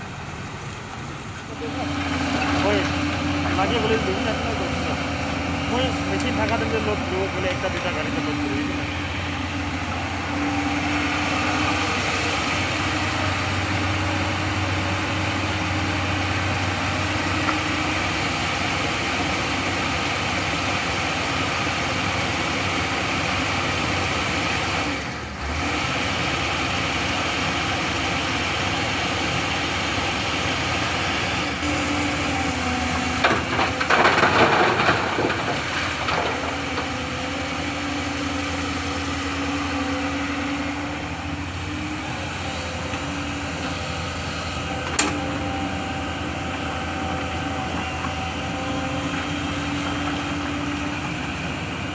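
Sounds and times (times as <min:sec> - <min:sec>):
heavy machinery diesel engine running: 0:00.0 - 0:51.9.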